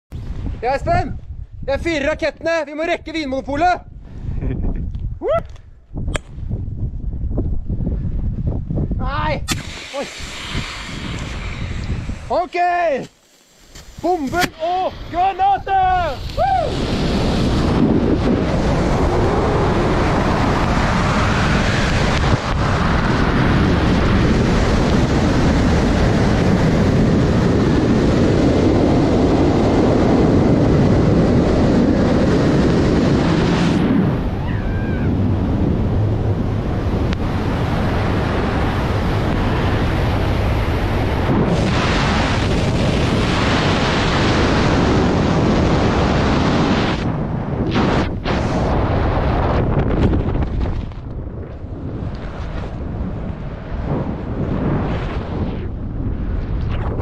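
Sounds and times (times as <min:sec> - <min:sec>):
wind rushing over microphone: 0:00.1 - 0:57.0.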